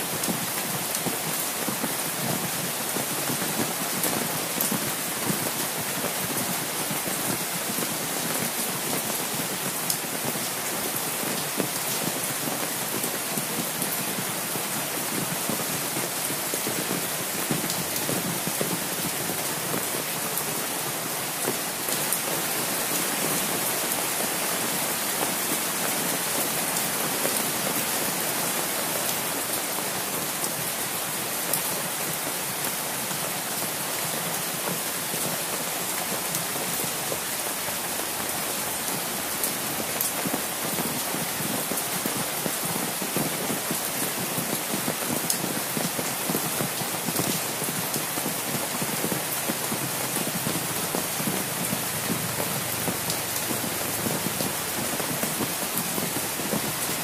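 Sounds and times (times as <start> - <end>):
raindrops ticking on an umbrella: 0.0 - 30.8, 31.4 - 57.0
steady rain falling: 0.0 - 57.0.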